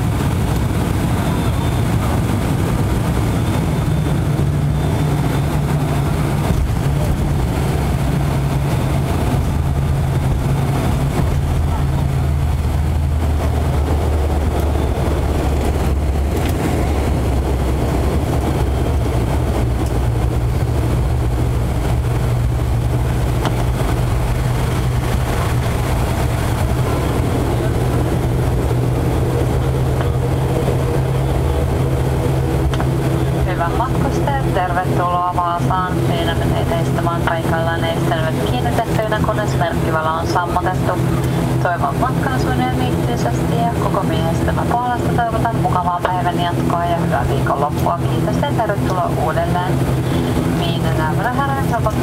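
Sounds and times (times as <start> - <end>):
turboprop engines droning: 0.0 - 52.0.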